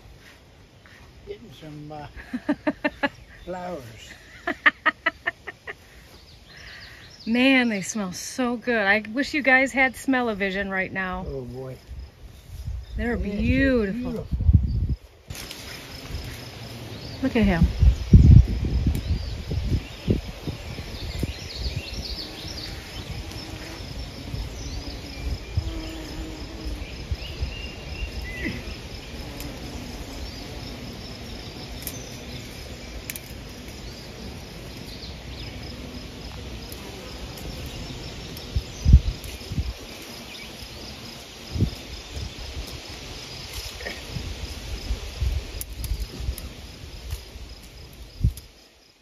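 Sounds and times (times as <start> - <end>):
bumblebees buzzing: 0.0 - 49.0
insects trilling: 0.0 - 49.0
wind rumbling on microphone: 8.8 - 48.6.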